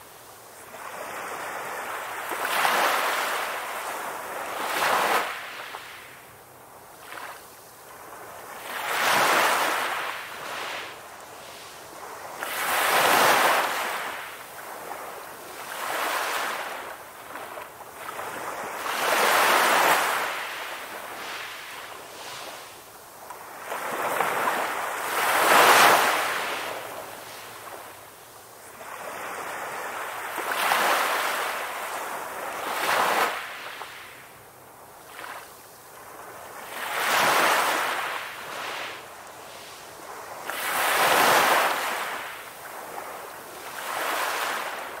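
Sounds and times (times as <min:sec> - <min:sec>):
waves breaking and washing in: 0:00.0 - 0:45.0.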